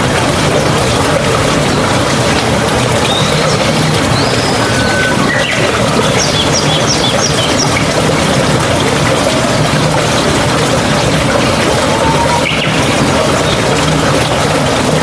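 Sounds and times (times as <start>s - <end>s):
mountain stream babbling: 0.0s - 15.0s.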